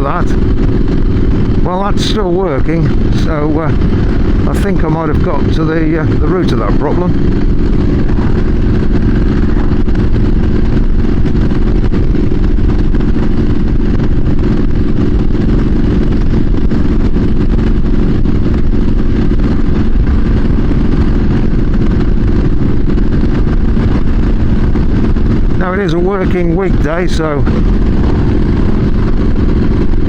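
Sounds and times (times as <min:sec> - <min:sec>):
motorcycle engine steady note: 0:00.0 - 0:30.0
wind buffeting helmet microphone: 0:00.0 - 0:30.0.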